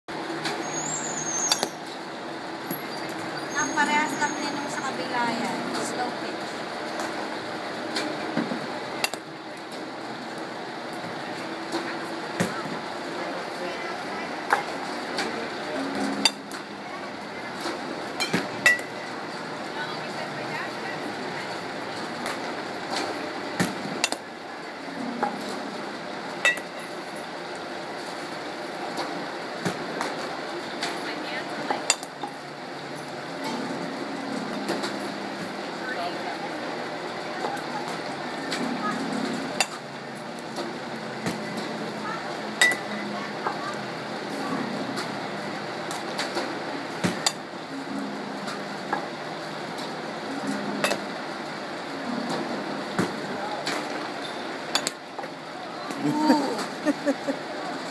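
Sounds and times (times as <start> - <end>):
steady background hum: 0.1 - 57.9
steady background noise: 0.1 - 57.9.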